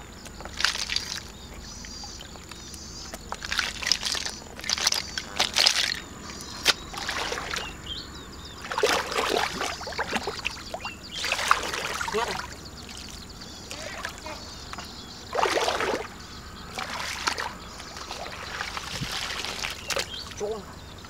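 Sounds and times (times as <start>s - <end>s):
muddy water splashing: 0.1s - 20.7s.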